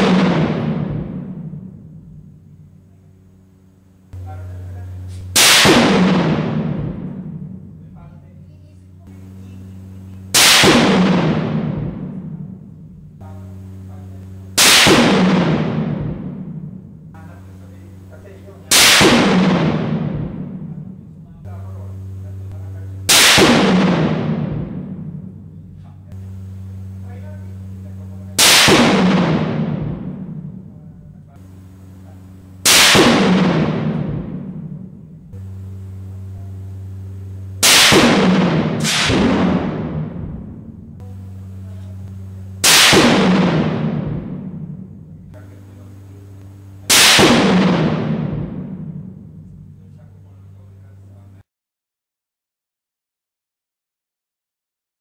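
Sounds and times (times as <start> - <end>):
rifle shots reverberating indoors: 0.0 - 8.1, 9.0 - 49.8
low hum: 0.0 - 51.4.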